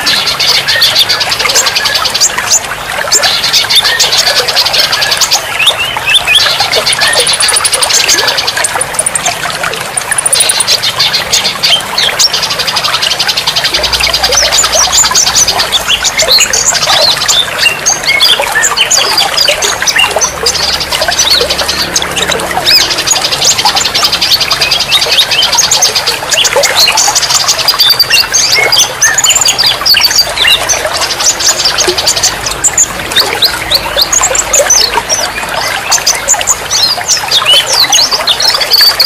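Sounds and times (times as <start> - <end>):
songbirds chirping and trilling: 0.0 - 39.0.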